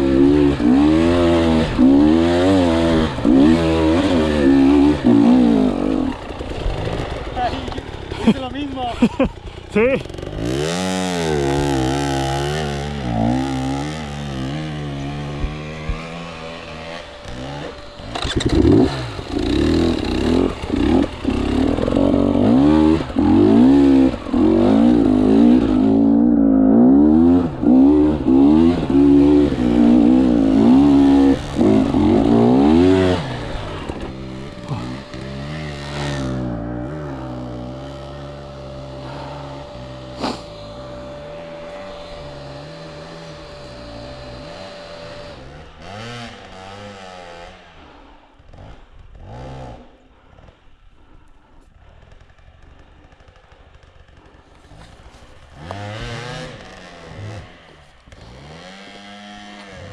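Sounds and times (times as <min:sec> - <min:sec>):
motorcycle engine revving: 0:00.0 - 0:50.7, 0:51.8 - 0:59.9.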